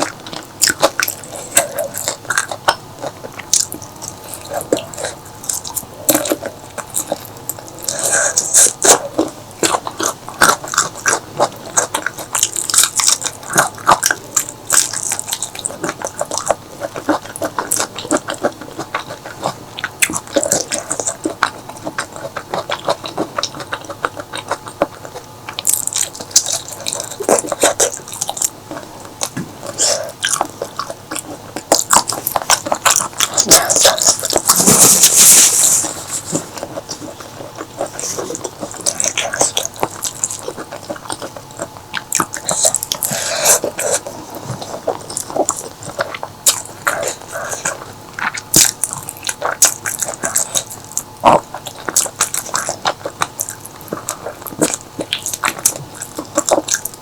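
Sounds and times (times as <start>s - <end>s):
crunches of biting: 0.0s - 57.0s
wet chewing and smacking: 0.0s - 57.0s.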